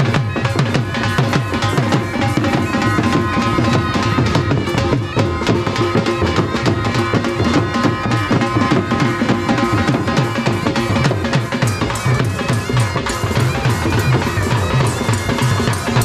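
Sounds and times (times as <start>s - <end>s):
music with fast dense drumming: 0.0s - 16.0s.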